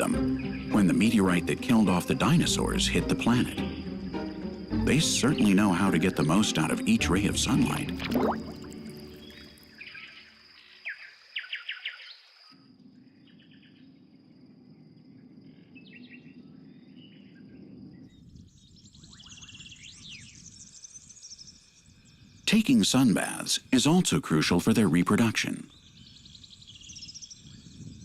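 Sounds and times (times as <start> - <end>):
small birds chirping: 0.0 - 14.5, 15.4 - 24.0, 25.6 - 28.0
high insect trill: 0.0 - 23.7.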